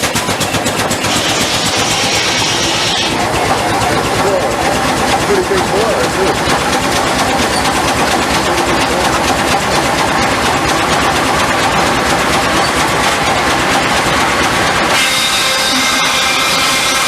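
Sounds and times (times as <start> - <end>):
saw whine: 0.0 - 17.0
steam machinery chugging: 0.0 - 17.0.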